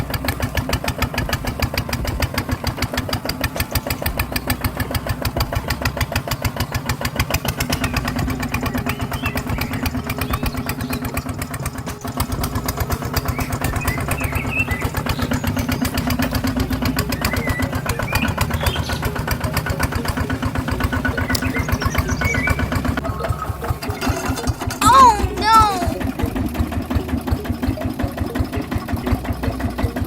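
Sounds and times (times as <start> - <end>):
small engine chugging: 0.0 - 30.0.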